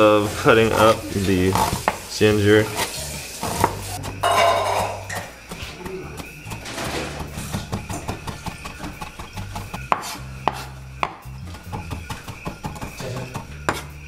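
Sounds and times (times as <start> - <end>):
knife chopping on board: 0.7 - 14.0.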